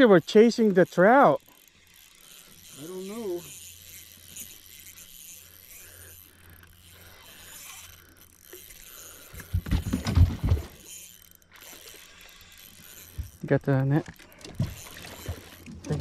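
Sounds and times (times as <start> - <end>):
fishing reel ratcheting whir: 0.0 - 16.0.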